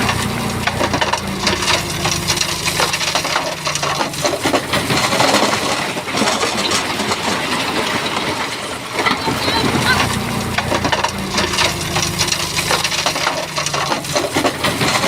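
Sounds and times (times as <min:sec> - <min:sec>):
bulldozer engine low note: 0:00.0 - 0:06.3, 0:09.2 - 0:15.0
stones clattering and grinding: 0:00.6 - 0:09.2, 0:10.0 - 0:15.0.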